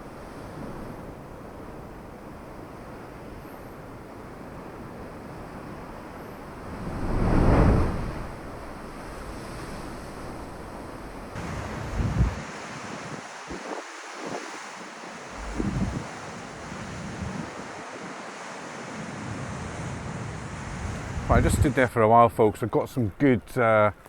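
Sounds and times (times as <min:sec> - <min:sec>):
wind buffeting microphone: 0:00.0 - 0:14.6, 0:15.2 - 0:18.2, 0:19.0 - 0:21.9
sea waves washing in: 0:00.0 - 0:21.9.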